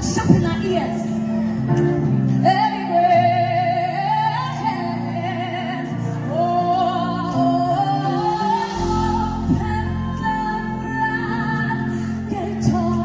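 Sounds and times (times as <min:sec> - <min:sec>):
woman singing: 0:02.4 - 0:13.0.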